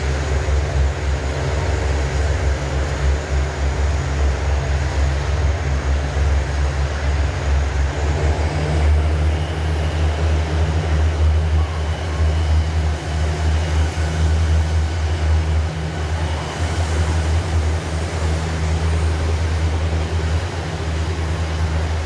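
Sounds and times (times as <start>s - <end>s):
diesel train engine droning: 0.0s - 22.0s.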